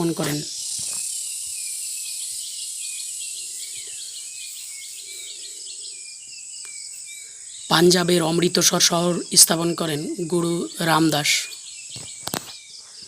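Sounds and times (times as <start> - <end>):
small birds chirping: 0.0 - 13.0
steady high background hiss: 0.0 - 13.0.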